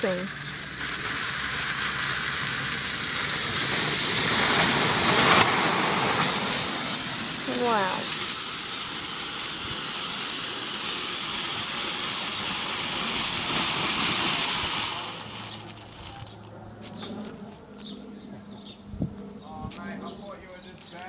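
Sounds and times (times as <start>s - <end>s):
firework fountain hissing: 0.0s - 18.1s, 19.6s - 21.0s.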